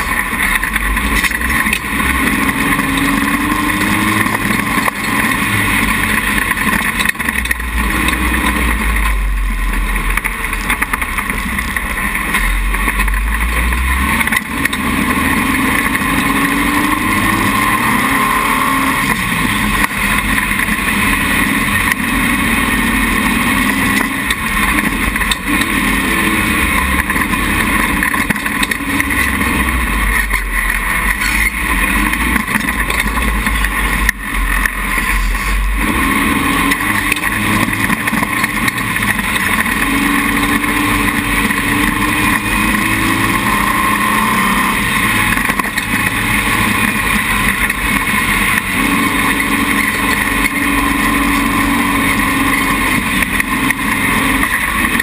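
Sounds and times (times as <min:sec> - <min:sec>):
dune buggy engine revving: 0:00.0 - 0:55.0.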